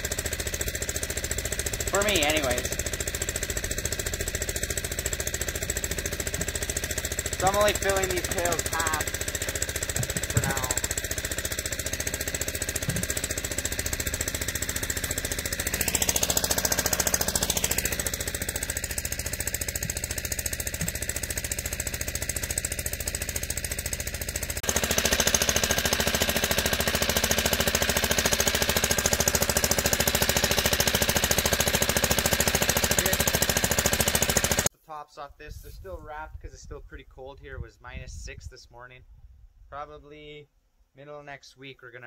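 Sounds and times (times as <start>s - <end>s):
small engine chugging: 0.0s - 34.7s.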